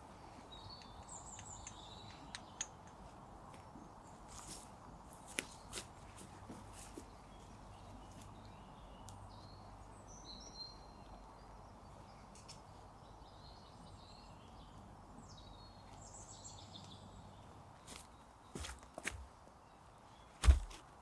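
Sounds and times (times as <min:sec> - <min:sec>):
small birds chirping: 0:00.0 - 0:20.5.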